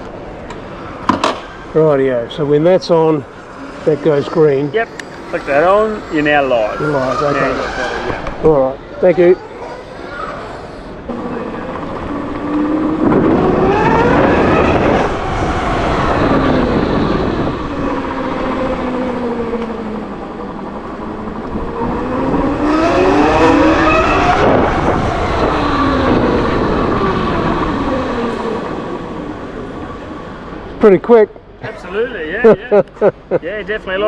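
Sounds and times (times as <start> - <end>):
tyre and wind rush: 3.0 - 30.8
electric motorcycle motor whine: 3.4 - 30.7.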